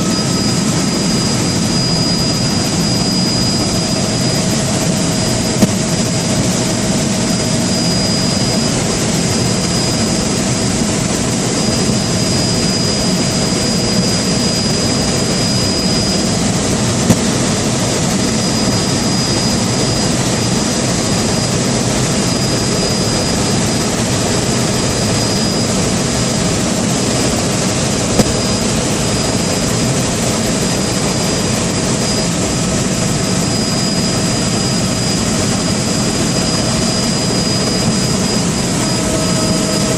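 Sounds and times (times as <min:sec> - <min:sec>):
high-pitched whine: 0:00.0 - 0:39.9
moving vehicle running noise: 0:00.0 - 0:39.9.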